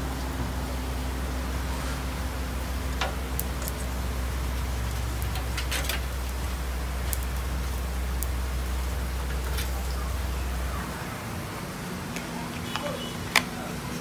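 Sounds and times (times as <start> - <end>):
low rumble: 0.0 - 12.5
charcoal grill hissing: 0.0 - 14.0.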